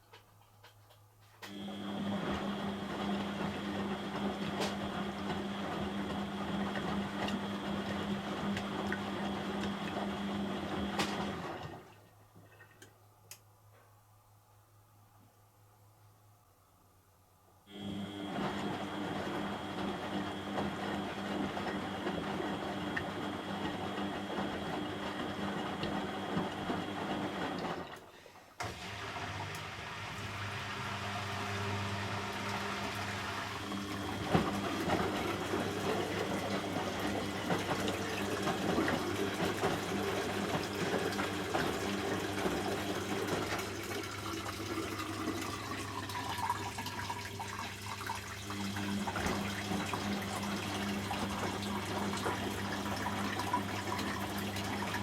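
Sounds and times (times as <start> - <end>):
washing machine taking in water: 1.5 - 12.1, 17.7 - 55.0.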